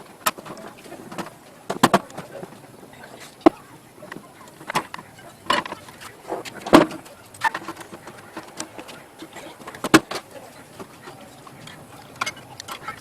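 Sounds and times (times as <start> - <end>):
hard parts knocking and clicking: 0.0 - 2.6, 3.4 - 13.0.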